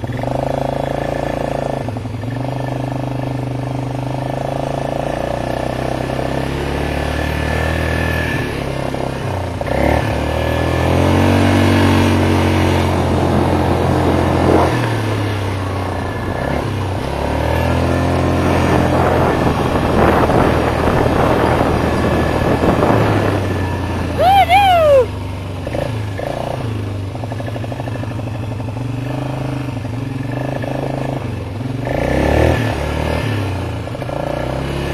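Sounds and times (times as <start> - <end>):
vehicle engine running: 0.0 - 34.9.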